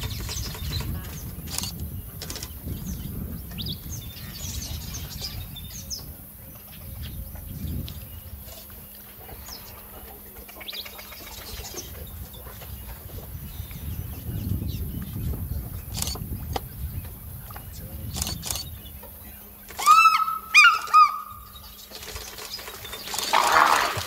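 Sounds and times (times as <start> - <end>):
wild birds chirping: 0.0 - 24.0.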